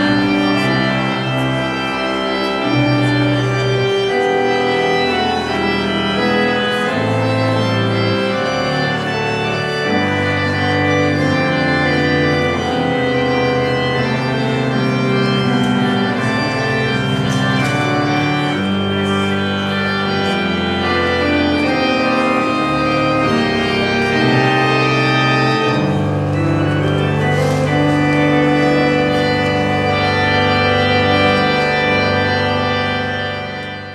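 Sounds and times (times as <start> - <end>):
church organ playing chords: 0.0 - 33.9.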